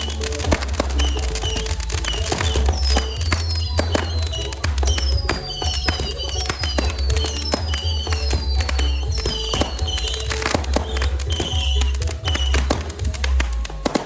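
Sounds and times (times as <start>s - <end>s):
fireworks crackling and popping: 0.0s - 14.0s
loud music with heavy bass: 0.0s - 14.0s.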